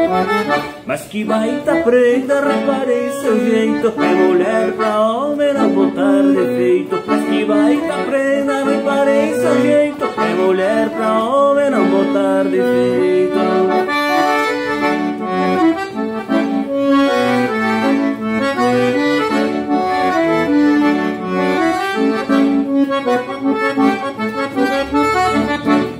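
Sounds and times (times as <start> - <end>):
accordion playing: 0.0 - 25.9.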